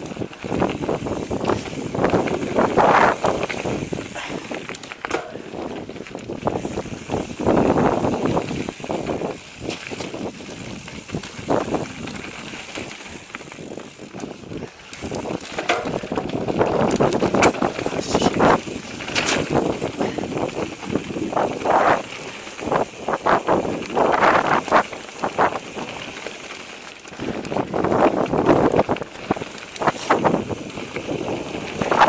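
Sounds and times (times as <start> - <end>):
bike rattling over bumps: 0.0 - 32.0
bike tyres crunching over dirt: 0.0 - 32.0.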